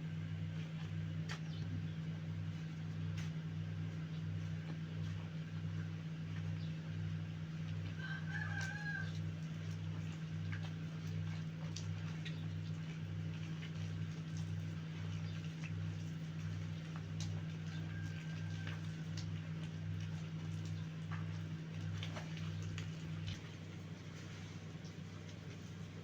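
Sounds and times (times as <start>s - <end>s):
low throbbing mechanical hum: 0.0s - 26.0s.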